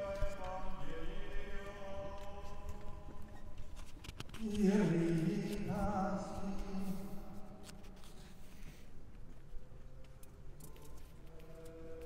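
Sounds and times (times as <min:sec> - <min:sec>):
liturgical chant: 0:00.0 - 0:08.9, 0:10.6 - 0:12.0.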